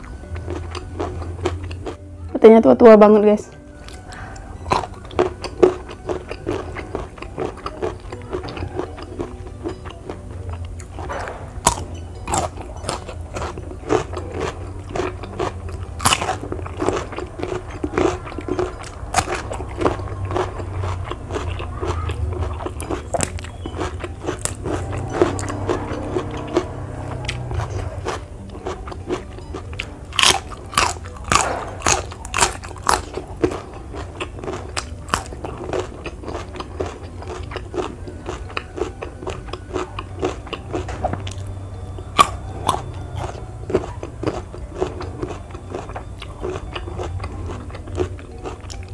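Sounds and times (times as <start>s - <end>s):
chewing crunchy raw vegetables: 0.0s - 2.2s, 3.8s - 48.9s.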